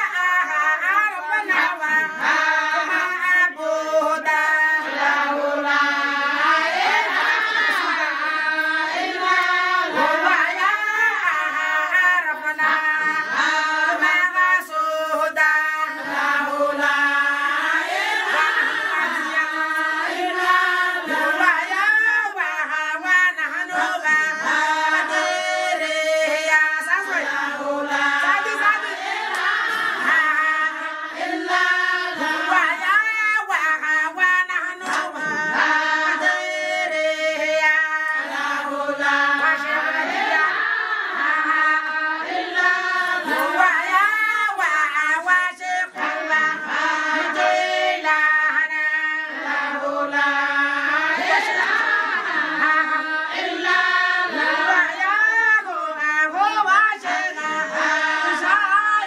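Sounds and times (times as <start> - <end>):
women singing chant-like song: 0.0 - 59.0.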